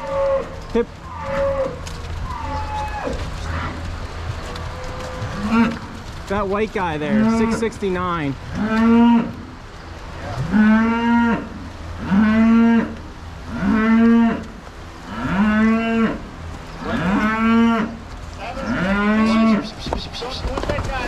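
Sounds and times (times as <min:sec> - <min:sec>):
cattle mooing: 0:00.0 - 0:03.9, 0:04.7 - 0:06.0, 0:07.0 - 0:07.8, 0:08.5 - 0:09.4, 0:10.2 - 0:20.4.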